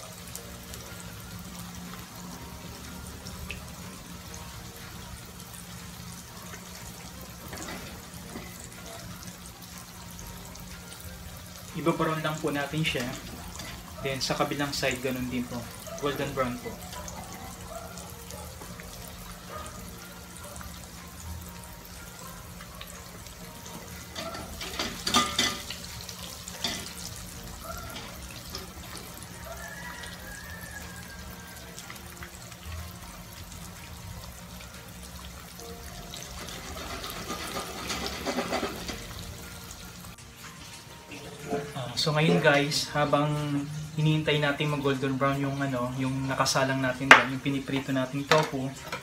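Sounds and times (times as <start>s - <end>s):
tofu sizzling in hot oil: 0.0s - 49.0s.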